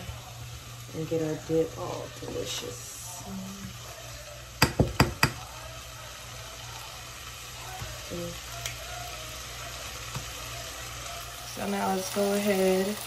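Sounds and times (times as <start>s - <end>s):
chili sizzling in a skillet: 0.0s - 13.0s.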